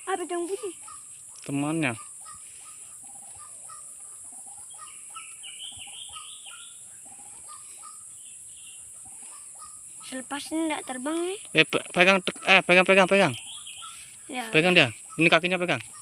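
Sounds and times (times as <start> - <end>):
waterhens calling: 0.0 - 16.0.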